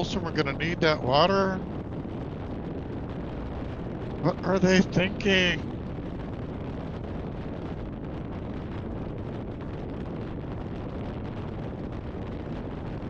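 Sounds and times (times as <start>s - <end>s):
wind rush on helmet microphone: 0.0s - 13.0s.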